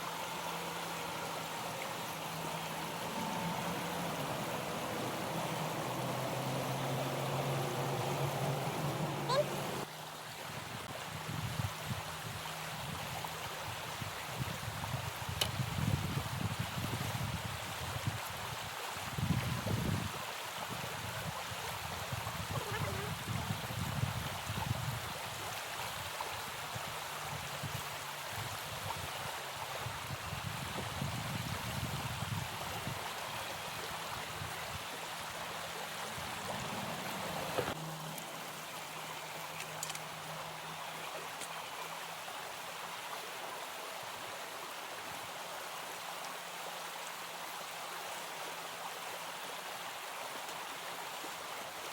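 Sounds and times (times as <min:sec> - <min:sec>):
stream water flowing: 0:00.0 - 0:51.9.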